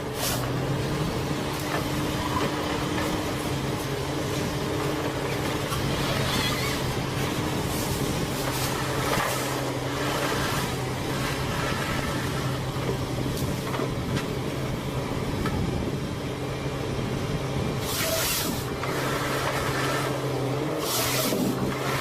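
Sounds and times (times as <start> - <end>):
wood-processing machinery humming: 0.0 - 22.0.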